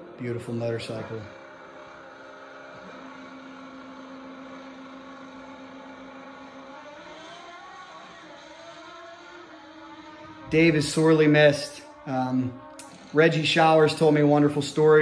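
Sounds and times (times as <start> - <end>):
drag motorcycle engines revving: 0.0 - 15.0.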